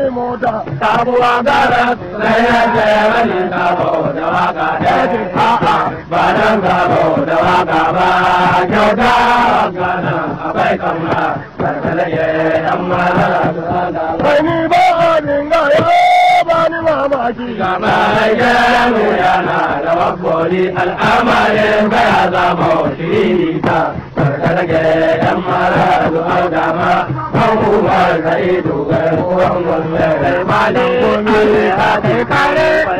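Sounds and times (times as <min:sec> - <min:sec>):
male voices chanting in chorus: 0:00.0 - 0:32.9
sharp drum strokes: 0:00.5 - 0:32.9.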